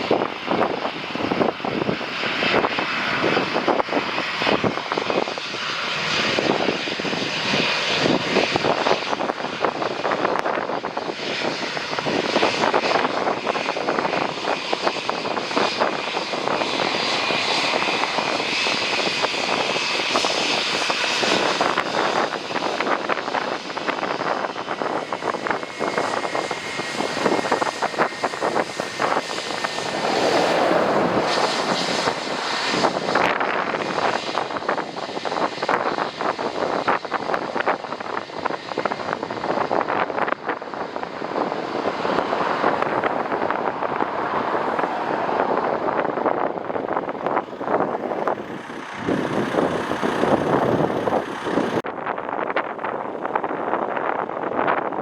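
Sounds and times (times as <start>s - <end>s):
jet engines of passing airliner: 0.0s - 55.0s
wind buffeting microphone: 0.0s - 55.0s.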